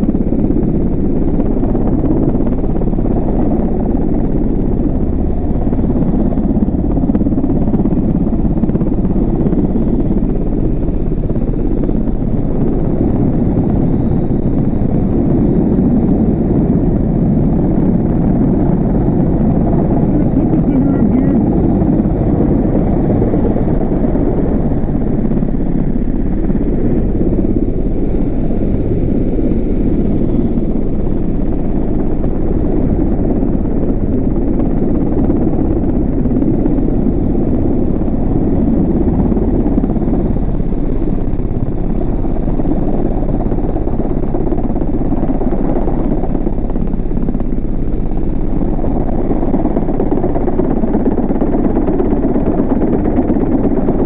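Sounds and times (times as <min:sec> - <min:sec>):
helicopter running: 0:00.0 - 0:54.0.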